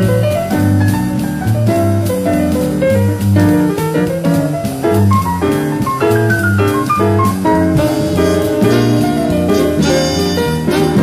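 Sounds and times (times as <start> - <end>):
bass line: 0.0 - 11.0
drum kit: 0.0 - 11.0
jazz band playing: 0.0 - 11.0.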